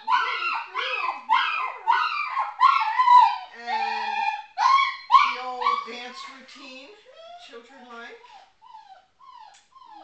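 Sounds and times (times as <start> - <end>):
puppy crying: 0.0 - 6.3, 7.1 - 7.6, 8.2 - 10.0.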